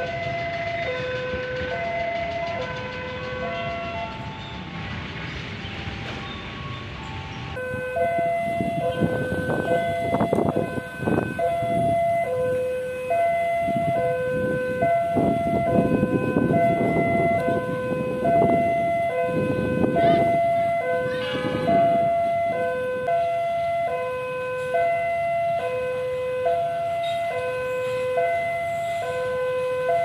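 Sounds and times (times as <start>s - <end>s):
road traffic noise: 0.0s - 30.0s
two-tone crossing alarm: 0.0s - 30.0s.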